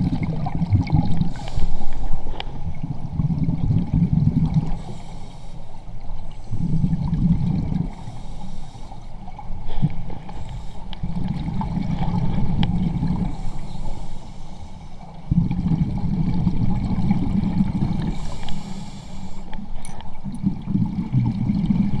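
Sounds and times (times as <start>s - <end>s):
underwater exhaust bubbles: 0.0s - 22.0s.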